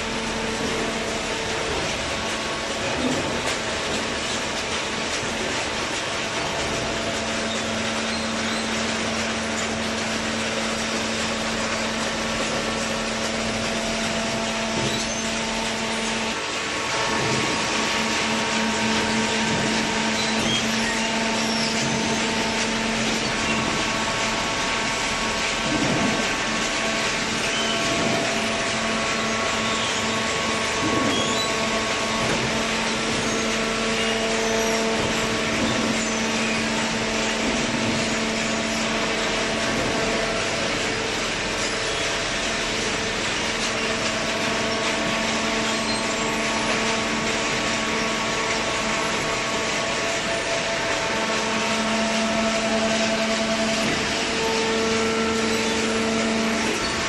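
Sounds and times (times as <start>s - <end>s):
baler machine humming and hissing: 0.0s - 57.0s.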